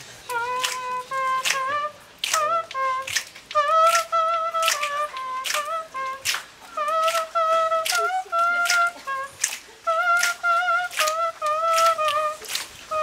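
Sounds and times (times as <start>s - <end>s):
flute-like melody: 0.0s - 13.0s.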